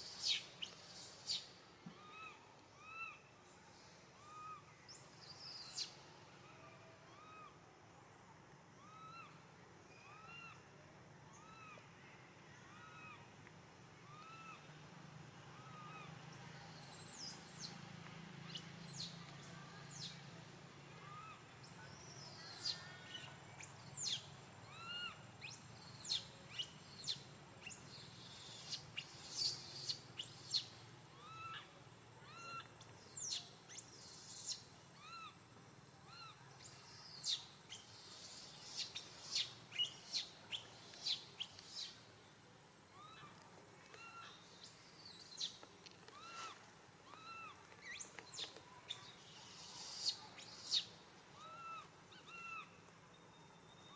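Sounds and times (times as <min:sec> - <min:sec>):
soft rise-and-fall monkey coo: 0:00.0 - 0:53.9.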